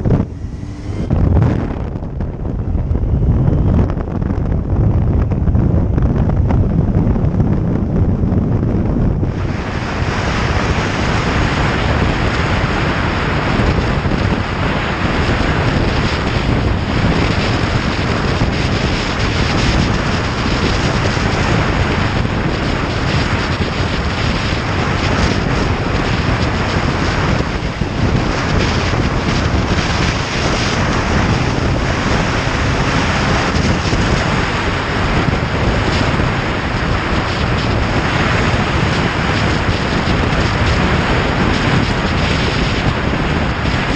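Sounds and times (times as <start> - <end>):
motorcycle engine: 0.0 - 43.9
road noise: 0.0 - 43.9
wind buffeting microphone: 0.0 - 43.9.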